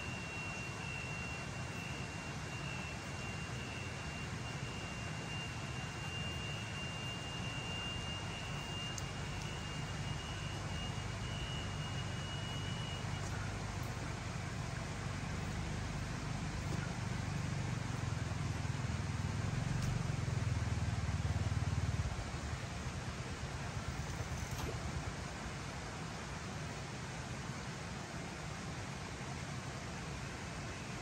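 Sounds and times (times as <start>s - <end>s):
low engine drone: 0.0s - 27.4s.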